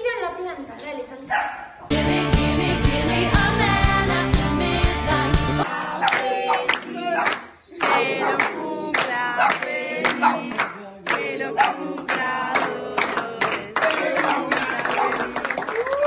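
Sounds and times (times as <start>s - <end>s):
group of voices singing: 1.9s - 15.7s.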